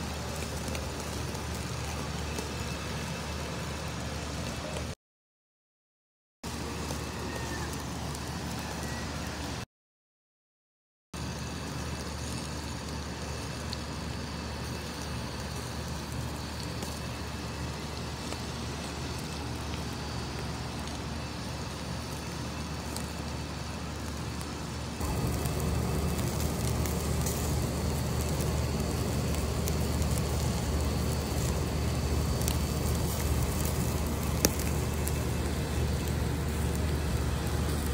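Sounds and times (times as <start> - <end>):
charcoal fire crackling: 0.0 - 5.0, 6.5 - 9.4, 11.2 - 37.9
low outdoor rumble: 0.0 - 5.0, 11.2 - 37.9.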